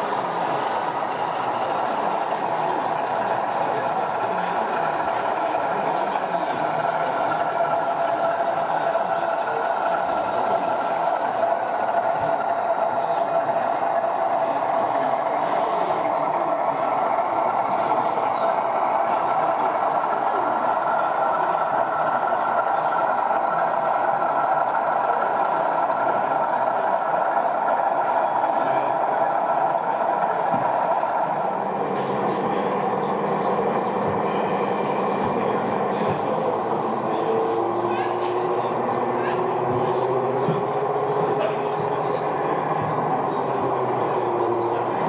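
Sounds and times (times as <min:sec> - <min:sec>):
model locomotive engine drone: 0:00.0 - 0:45.0.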